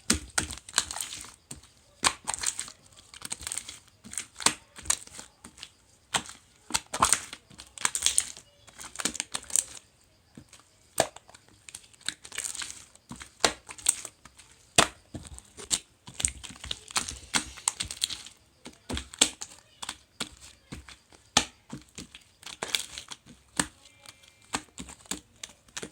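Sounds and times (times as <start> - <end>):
crinkling and crackling: 0.0 - 25.9.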